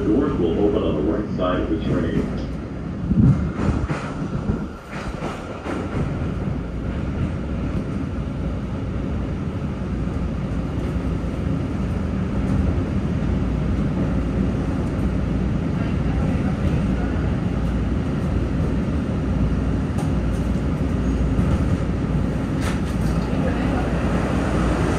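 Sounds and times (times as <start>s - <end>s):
subway train wheels rumbling: 0.0s - 24.9s.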